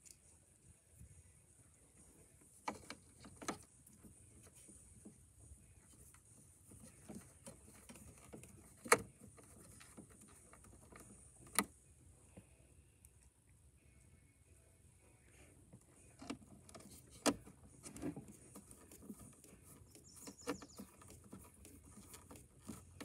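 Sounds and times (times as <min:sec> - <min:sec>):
faint handling noises: 0:00.0 - 0:14.2, 0:15.0 - 0:23.0.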